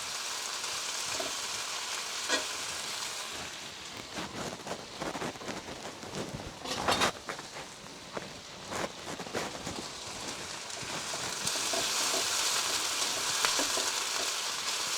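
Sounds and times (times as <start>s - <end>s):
chicken sizzling in oil: 0.0s - 14.9s
stirring scrapes against pan: 1.0s - 14.9s.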